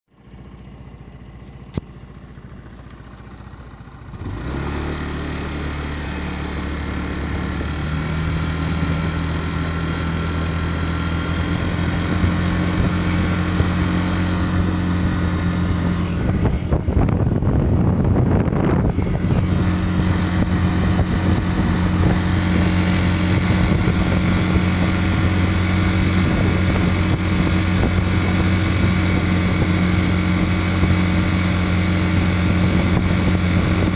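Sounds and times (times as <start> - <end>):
scooter engine running: 0.2 - 33.9.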